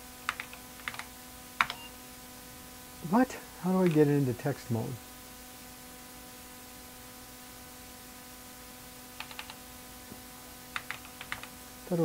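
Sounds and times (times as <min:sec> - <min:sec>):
electrical hum with steady tones: 0:00.0 - 0:12.0.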